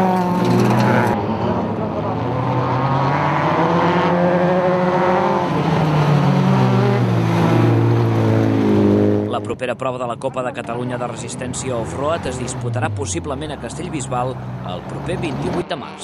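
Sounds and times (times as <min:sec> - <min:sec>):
race car engine revving: 0:00.0 - 0:09.5, 0:10.7 - 0:16.0.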